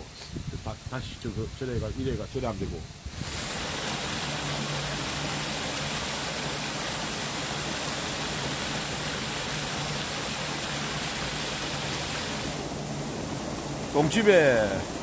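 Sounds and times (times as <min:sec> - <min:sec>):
running water rushing: 0:02.3 - 0:15.0.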